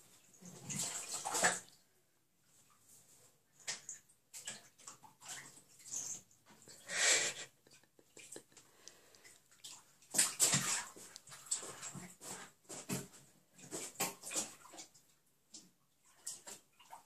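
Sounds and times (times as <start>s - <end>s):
animals scrabbling in bathtub: 0.0s - 17.0s.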